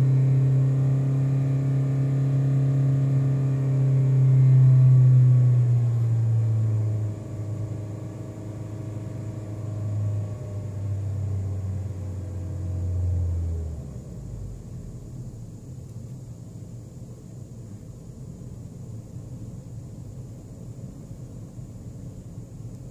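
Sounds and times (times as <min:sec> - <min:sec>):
car engine running: 0:00.0 - 0:22.9.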